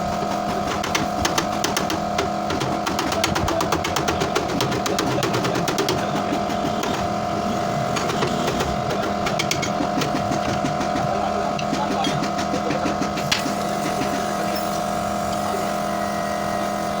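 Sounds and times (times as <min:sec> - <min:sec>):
workshop machine humming: 0:00.0 - 0:17.0.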